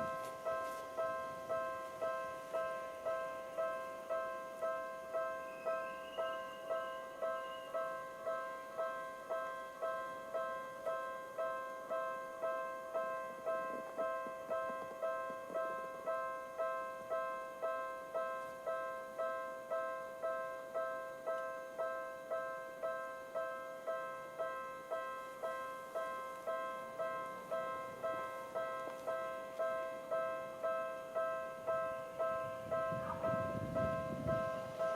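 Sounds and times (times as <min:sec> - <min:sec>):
level crossing alarm bell ringing: 0:00.0 - 0:34.9.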